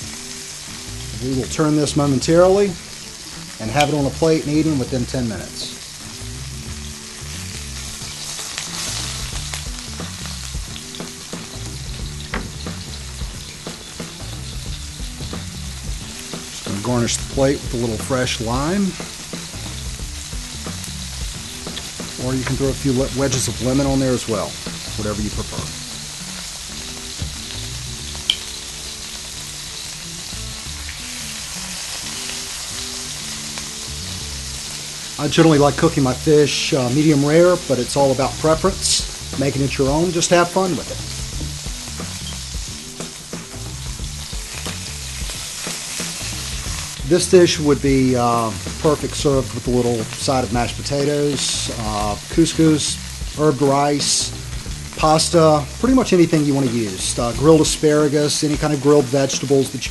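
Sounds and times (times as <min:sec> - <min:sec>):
fish sizzling in a grill pan: 0:00.0 - 0:59.9
soft background music: 0:00.0 - 0:59.9.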